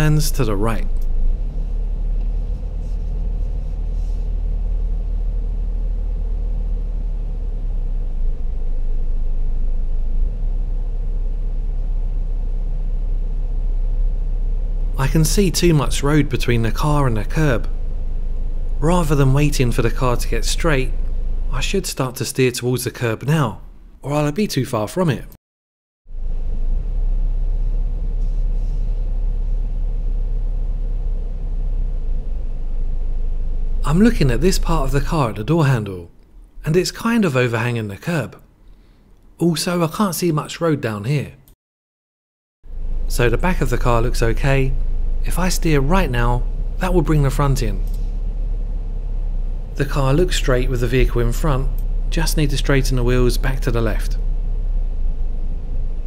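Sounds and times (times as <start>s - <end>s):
car engine idling: 0.0s - 24.0s, 26.1s - 38.0s, 42.7s - 56.0s
faint steady hum: 0.0s - 25.3s, 26.1s - 41.5s, 42.7s - 56.0s.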